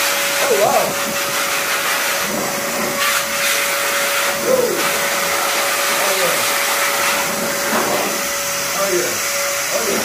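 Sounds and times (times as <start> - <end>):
car dryer blower rushing air: 0.0 - 10.0.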